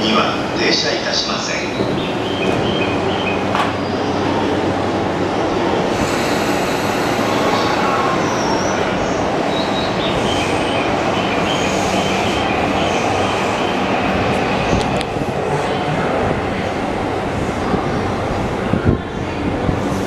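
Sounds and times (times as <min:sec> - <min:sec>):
train wheel and running noise: 0:00.0 - 0:20.0.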